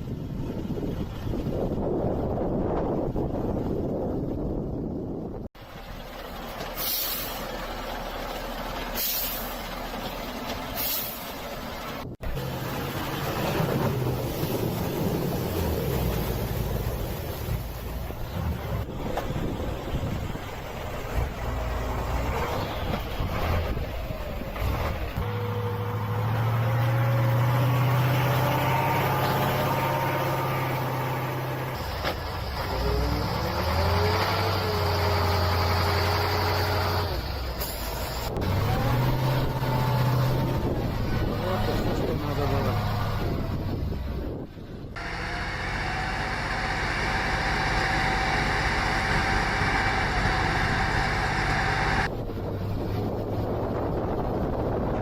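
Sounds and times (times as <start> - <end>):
engine whine: 0.0 - 55.0
truck engines droning: 0.0 - 55.0.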